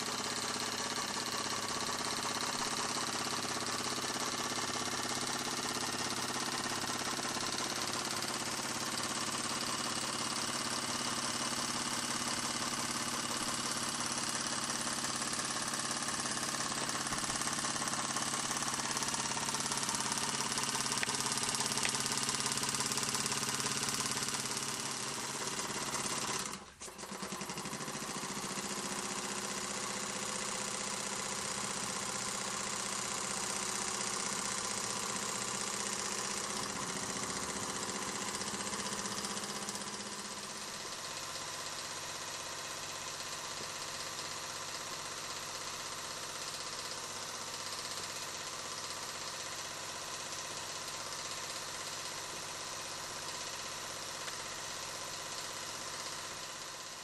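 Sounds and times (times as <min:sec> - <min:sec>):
toy steam engine clatter: 0:03.0 - 0:57.0.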